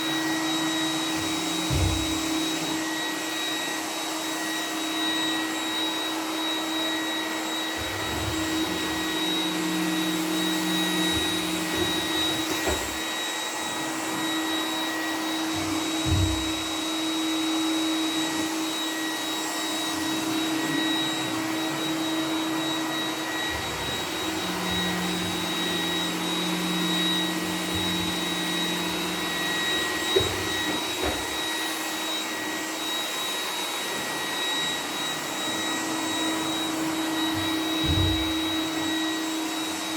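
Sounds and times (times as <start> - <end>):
robot vacuum motor whine: 0.0 - 39.9.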